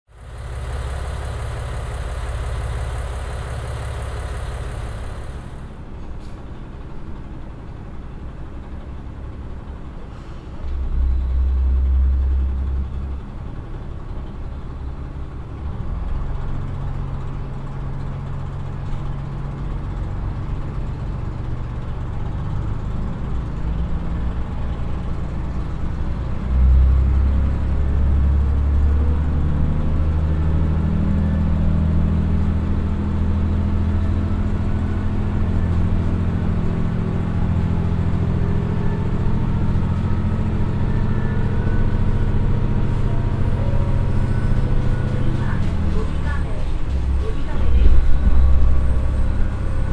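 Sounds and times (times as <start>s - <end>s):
diesel railcar engine accelerating: 0.1s - 49.9s.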